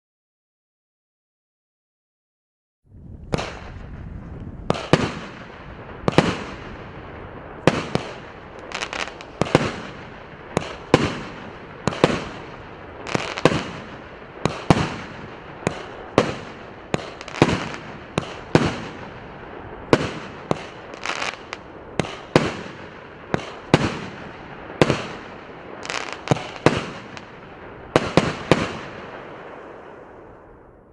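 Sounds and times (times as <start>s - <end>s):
firework bangs: 2.9s - 30.7s
firework hissing and crackling: 3.0s - 30.2s.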